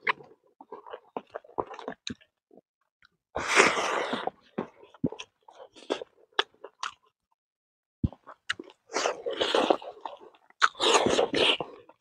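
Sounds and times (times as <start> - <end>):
man chewing food: 0.0 - 7.1, 8.0 - 12.0.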